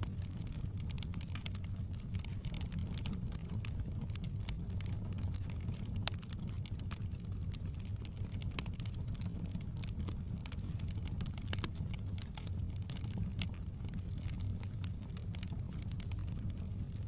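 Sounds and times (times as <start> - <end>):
logs crackling and popping: 0.0 - 17.0
wood fire rumbling: 0.0 - 17.0.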